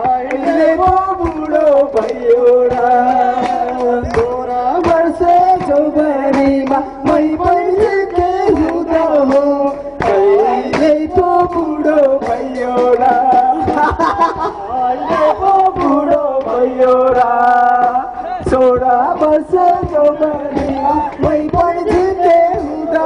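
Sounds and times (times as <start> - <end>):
drum beat: 0.0 - 23.0
man singing: 0.0 - 23.0.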